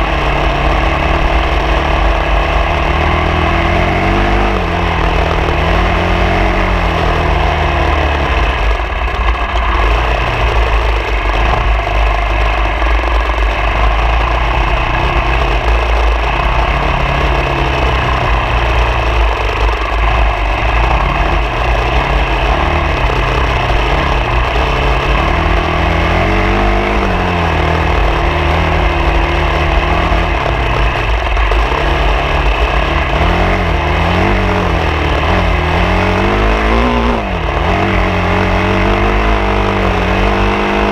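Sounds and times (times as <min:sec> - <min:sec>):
road and wind noise: 0:00.0 - 0:40.9
vehicle engine revving: 0:00.0 - 0:40.9.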